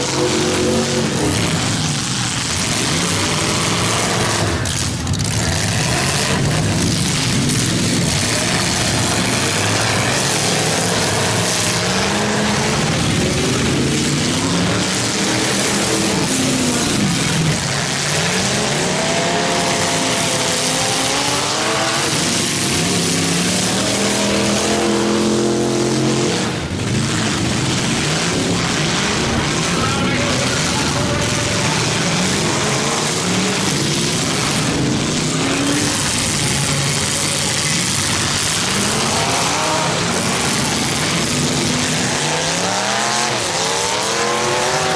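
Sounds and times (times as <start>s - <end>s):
car engines revving hard: 0.0s - 44.9s.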